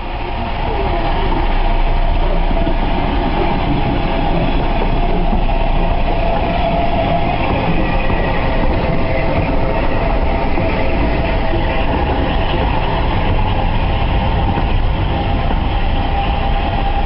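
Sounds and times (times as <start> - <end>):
train rumbling on rails: 0.0 - 17.0
wheels clickety-clack: 0.0 - 17.0.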